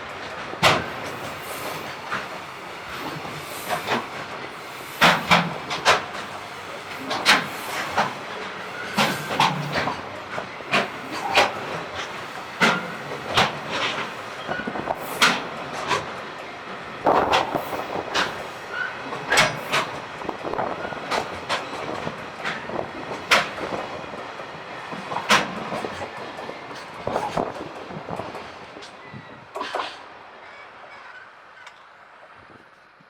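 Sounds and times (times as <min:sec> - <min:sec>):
train wheels clacking over rail joints: 0:00.0 - 0:30.2
train rolling rumble: 0:00.0 - 0:33.0.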